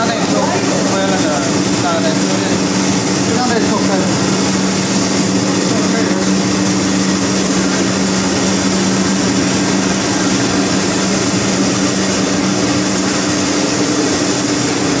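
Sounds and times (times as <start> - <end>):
low machinery hum: 0.0 - 15.0
machinery rushing noise: 0.0 - 15.0.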